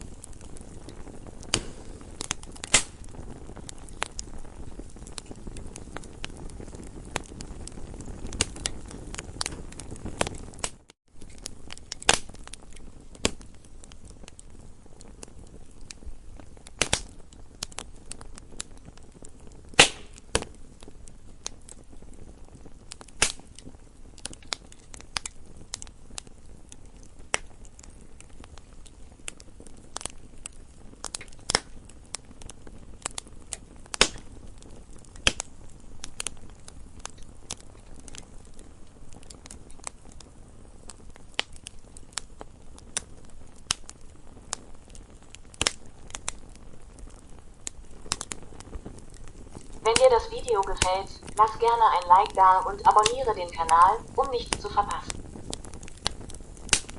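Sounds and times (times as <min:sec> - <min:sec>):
campfire crackling: 0:00.0 - 0:56.9
loud fire pops: 0:00.0 - 0:56.9.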